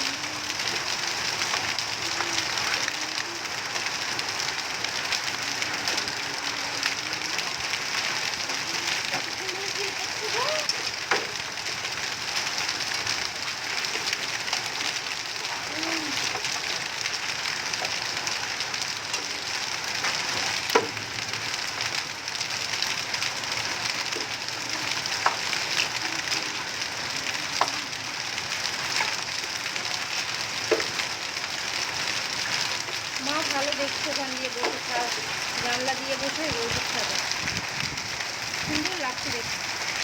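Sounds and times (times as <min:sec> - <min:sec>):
hailstones cracking: 0:00.0 - 0:40.0
heavy rain hissing: 0:00.0 - 0:40.0.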